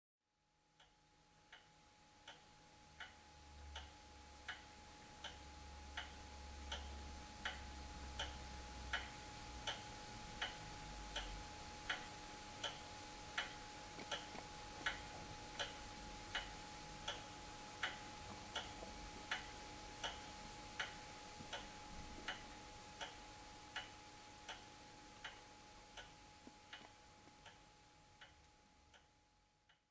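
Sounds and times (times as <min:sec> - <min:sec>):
wall clock ticking: 0:00.8 - 0:29.8.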